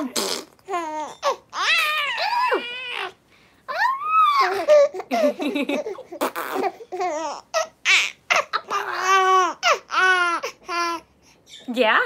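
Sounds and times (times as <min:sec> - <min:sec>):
baby laughing and squealing: 0:00.0 - 0:11.1.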